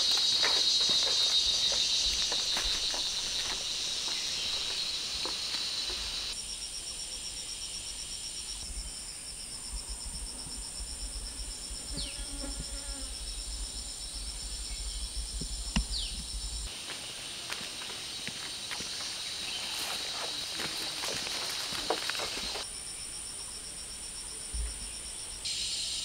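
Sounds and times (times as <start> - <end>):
insects buzzing and trilling: 0.0 - 26.0
pulsing insect trill: 0.0 - 26.0.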